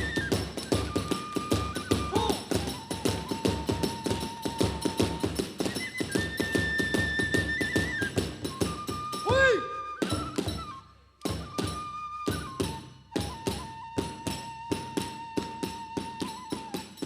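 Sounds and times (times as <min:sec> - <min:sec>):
bamboo flute: 0:00.0 - 0:17.0.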